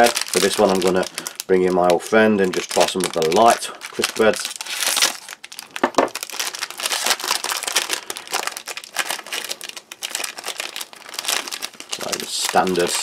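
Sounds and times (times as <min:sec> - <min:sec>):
foil pouch crinkling: 0:00.0 - 0:13.0.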